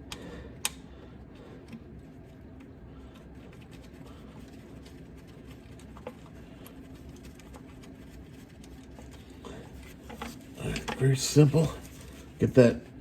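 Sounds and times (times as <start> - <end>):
steady low hum: 0.0 - 13.0
light clicks and scratches: 0.6 - 12.7.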